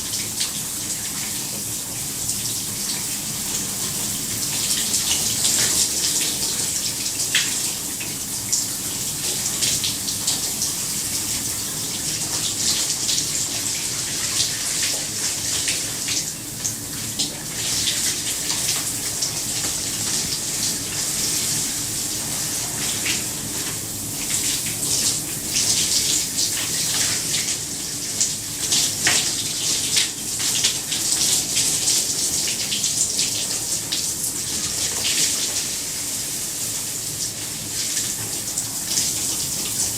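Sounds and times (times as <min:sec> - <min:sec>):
shower water splashing: 0:00.0 - 0:39.9.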